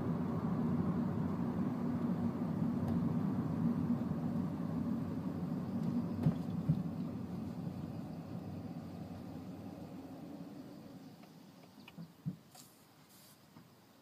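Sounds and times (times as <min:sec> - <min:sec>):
car cabin engine and road hum: 0:00.0 - 0:14.0.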